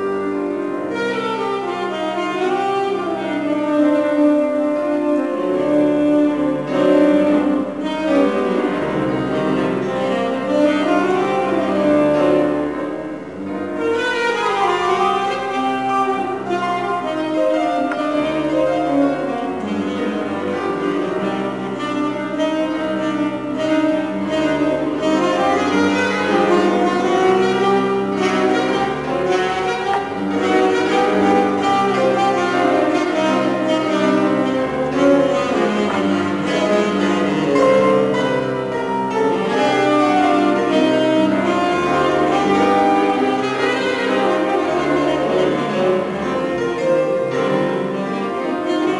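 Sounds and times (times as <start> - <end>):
piano: 0.0 - 48.9
bowed strings: 5.5 - 48.9.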